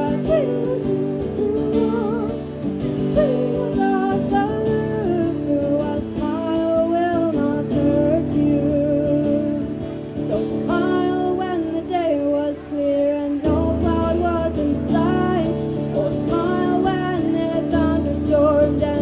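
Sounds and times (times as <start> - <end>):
acoustic guitar: 0.0 - 19.0
woman singing: 0.0 - 19.0.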